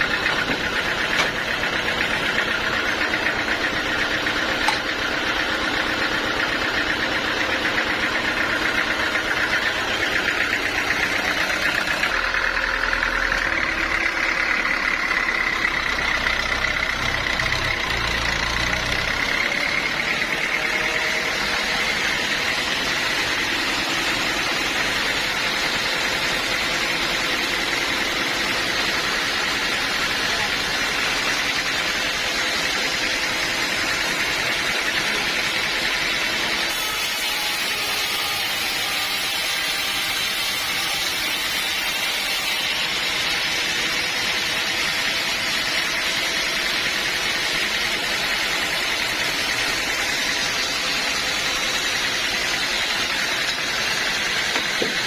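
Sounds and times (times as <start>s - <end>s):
band saw high whine: 0.0s - 55.0s.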